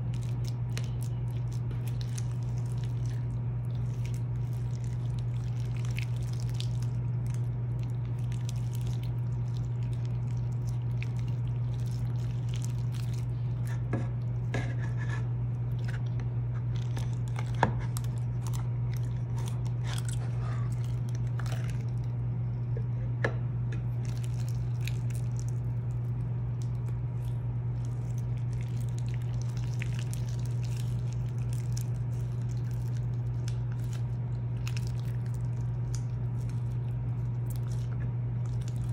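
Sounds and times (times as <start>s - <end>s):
slime squelching: 0.0s - 22.6s, 23.8s - 38.9s
steady low hum: 0.0s - 38.9s.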